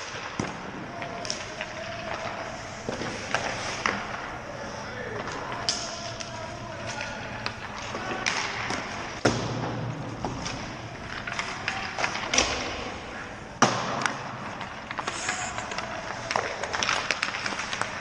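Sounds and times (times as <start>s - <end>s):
hockey pucks struck by sticks: 0.0s - 4.4s, 5.1s - 18.0s
skates scraping ice: 0.0s - 18.0s.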